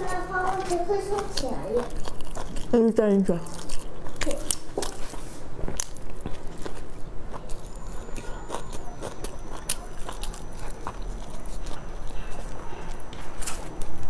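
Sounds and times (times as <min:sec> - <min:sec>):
chewing a burger: 0:00.0 - 0:14.0.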